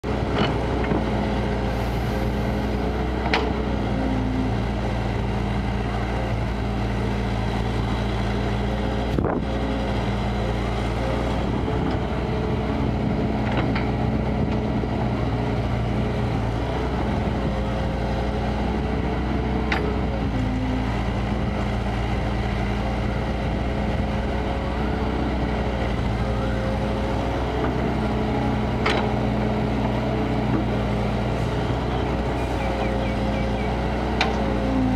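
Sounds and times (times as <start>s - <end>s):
excavator diesel engine working: 0.0s - 34.9s.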